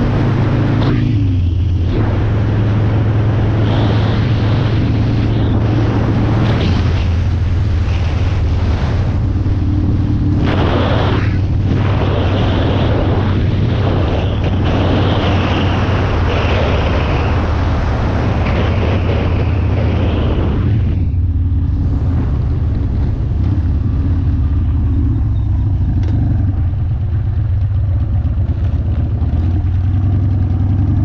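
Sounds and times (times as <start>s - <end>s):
wind noise on microphone: 0.0s - 30.1s
motorcycle engine running: 0.0s - 31.0s.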